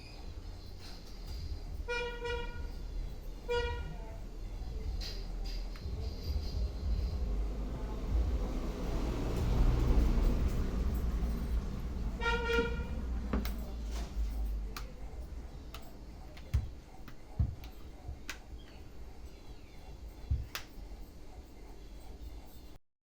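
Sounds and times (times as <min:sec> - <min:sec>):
low hum: 0:00.0 - 0:22.8.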